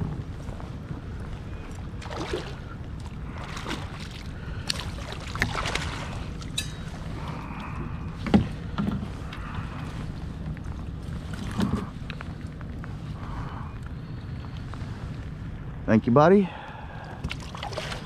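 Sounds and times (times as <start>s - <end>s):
water lapping around kayak: 0.0s - 15.8s, 16.5s - 18.0s.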